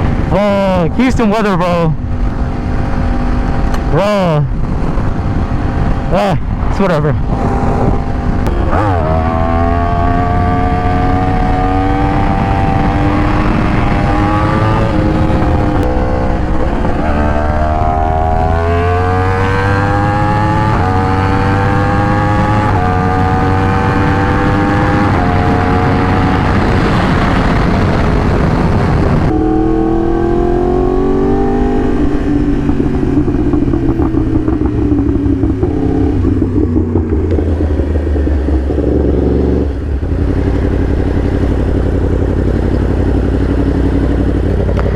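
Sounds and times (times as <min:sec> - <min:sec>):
sport bike engine accelerating: 0:00.1 - 0:44.9.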